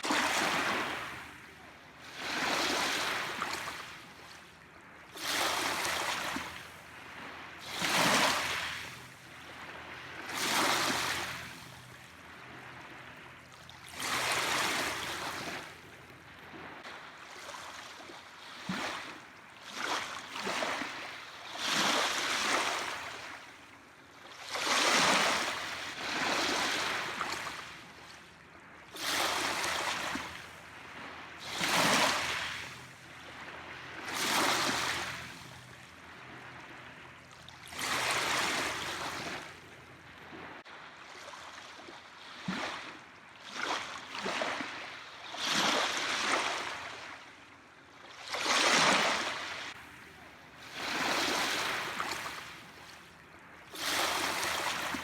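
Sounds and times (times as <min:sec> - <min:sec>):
small waves washing on shore: 0:00.0 - 0:55.0.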